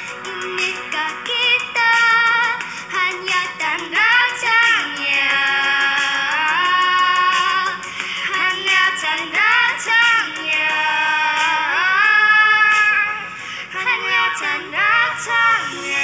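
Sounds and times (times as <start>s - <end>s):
girls singing duet: 0.0s - 16.0s.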